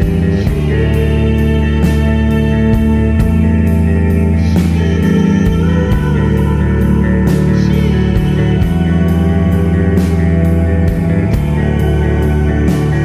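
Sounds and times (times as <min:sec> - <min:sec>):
guitar rock music: 0:00.0 - 0:13.0.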